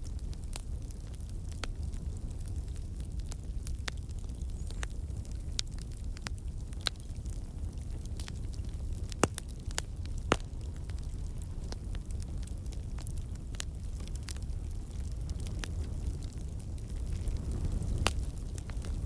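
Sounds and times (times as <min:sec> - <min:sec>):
flames low rumble: 0:00.0 - 0:19.0
logs crackling and popping: 0:00.0 - 0:19.0.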